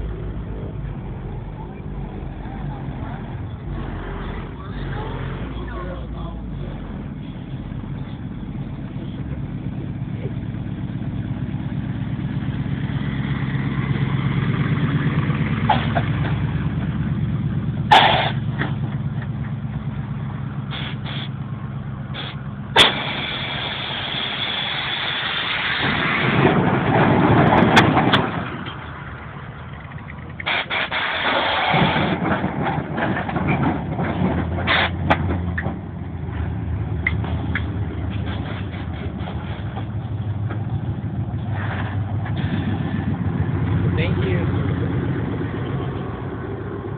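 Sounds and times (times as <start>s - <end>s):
car engines running: 0.0s - 46.9s.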